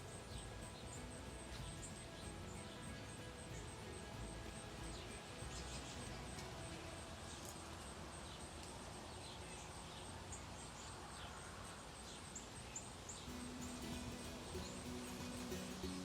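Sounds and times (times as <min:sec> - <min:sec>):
faint bird chirps: 0:00.0 - 0:16.0
outdoor background hiss: 0:00.0 - 0:16.0.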